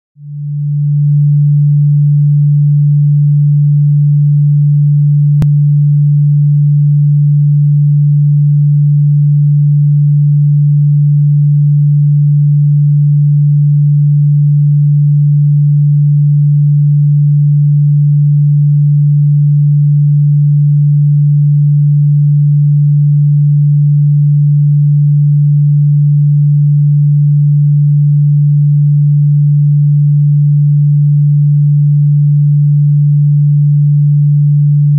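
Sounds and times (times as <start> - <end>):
low electronic tone: 0.2 - 34.9.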